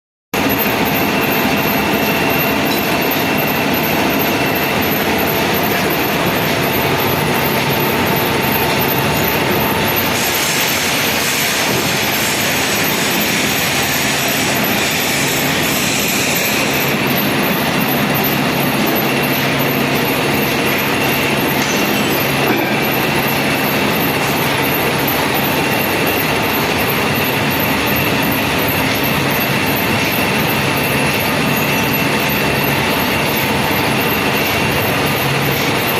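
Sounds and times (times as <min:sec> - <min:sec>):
metalworking machine whining and grinding: 0:00.4 - 0:35.9.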